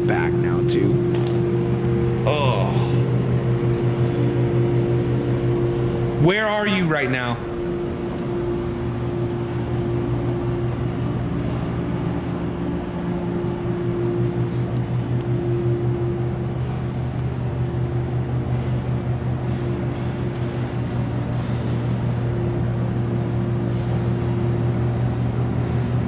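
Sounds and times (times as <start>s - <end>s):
low mechanical hum of machine: 0.0s - 26.0s.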